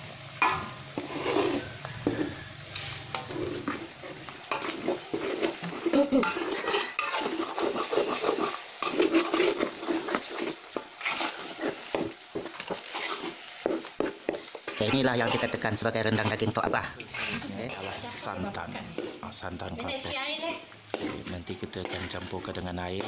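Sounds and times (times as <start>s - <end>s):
paste frying and sizzling: 0.0s - 23.0s
metal spatula scraping a wok: 0.4s - 23.0s.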